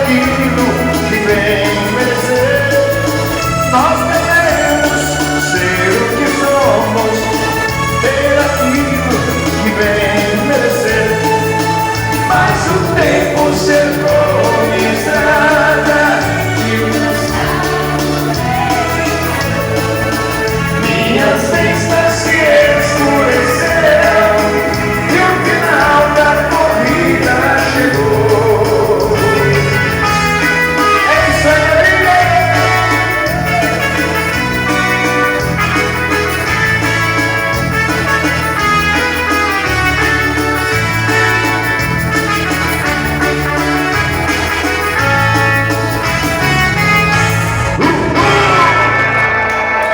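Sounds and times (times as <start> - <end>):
dance band playing a waltz: 0.0 - 49.9.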